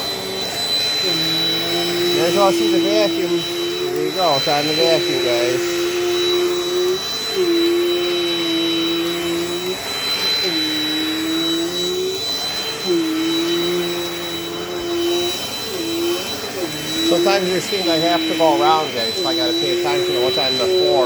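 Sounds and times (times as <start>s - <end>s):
vacuum cleaner whining: 0.0s - 21.0s.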